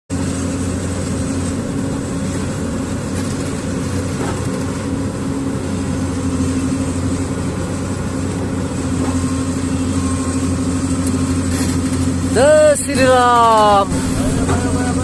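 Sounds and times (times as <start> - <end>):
engine droning steadily: 0.1 - 15.0.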